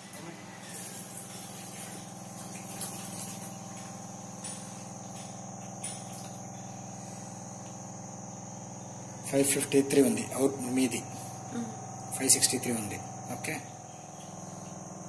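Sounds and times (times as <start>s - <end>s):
booster pump humming with whine: 0.0s - 15.0s.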